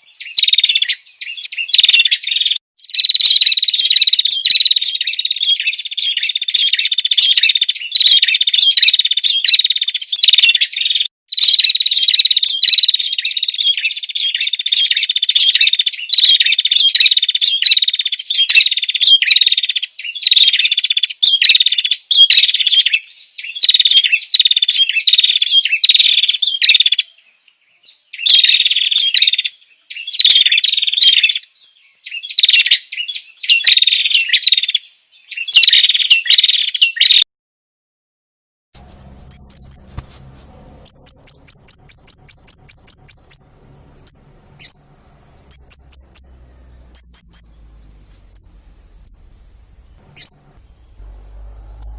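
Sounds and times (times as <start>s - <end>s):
songbird chirping and trilling: 0.0s - 37.2s, 38.8s - 51.9s.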